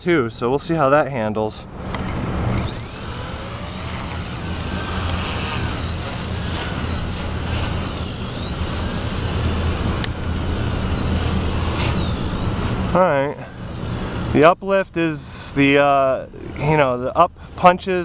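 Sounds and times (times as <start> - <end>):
toy helicopter whine: 1.5 - 18.0.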